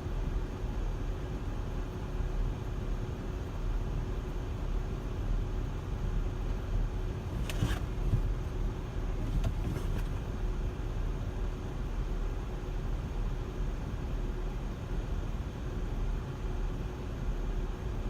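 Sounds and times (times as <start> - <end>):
car rumbling in motion: 0.0 - 18.0
faint constant hum: 0.0 - 18.0.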